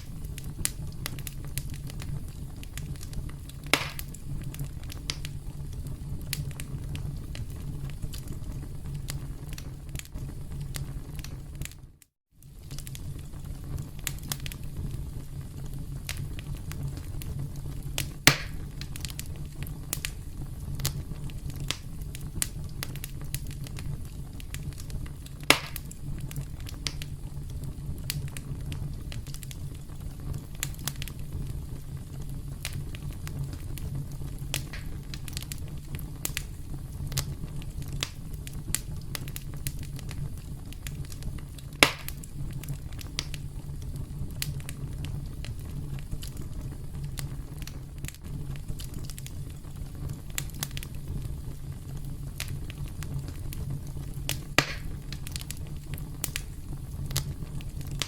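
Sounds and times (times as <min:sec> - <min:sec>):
campfire crackling: 0:00.0 - 0:58.0
sharp pops from fire: 0:00.0 - 0:58.0.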